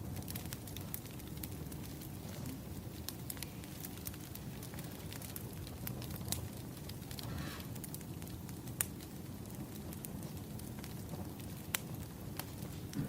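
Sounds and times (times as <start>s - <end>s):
hiss from fire: 0.0s - 13.0s
wood fire crackling: 0.0s - 13.0s.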